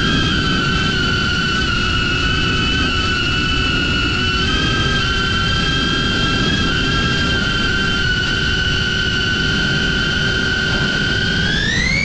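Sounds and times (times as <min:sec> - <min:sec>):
drone propellers whining: 0:00.0 - 0:12.0
strong wind rumble: 0:00.0 - 0:12.0.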